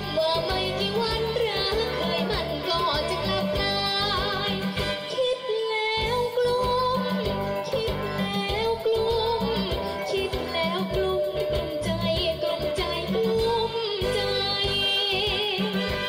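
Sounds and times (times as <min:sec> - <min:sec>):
backing track with steady beat: 0:00.0 - 0:16.0
girl singing into microphone: 0:00.0 - 0:16.0.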